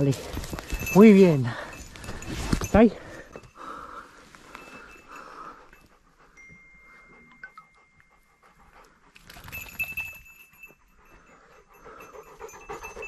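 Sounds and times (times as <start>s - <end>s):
dog panting: 0.6s - 13.0s.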